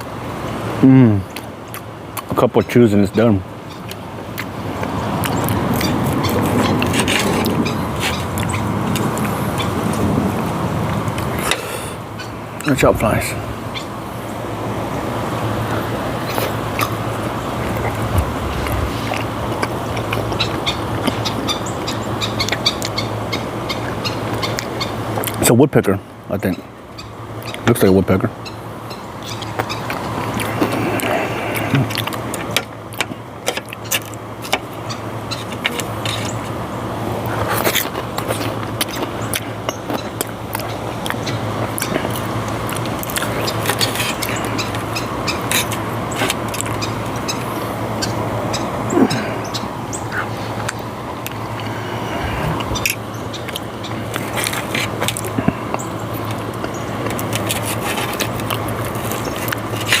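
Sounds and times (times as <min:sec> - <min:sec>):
chewing mouth clicks and smacks: 0:01.3 - 0:02.4, 0:03.7 - 0:11.6, 0:16.2 - 0:25.4, 0:28.9 - 0:36.6, 0:37.2 - 0:51.8, 0:52.4 - 1:00.0
low hum: 0:03.4 - 0:25.3, 0:28.3 - 1:00.0.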